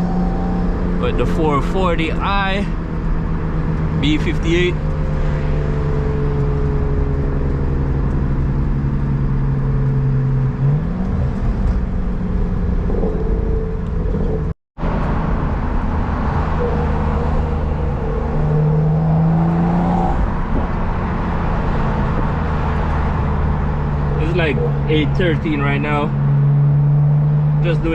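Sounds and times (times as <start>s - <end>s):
car engine drone: 0.0s - 27.9s.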